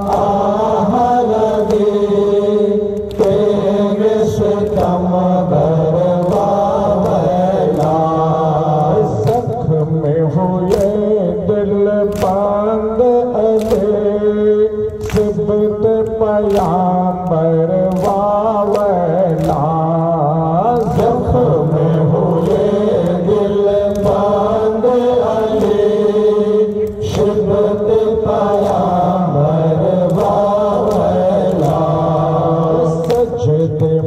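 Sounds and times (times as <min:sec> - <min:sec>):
men chanting in unison: 0:00.0 - 0:34.0.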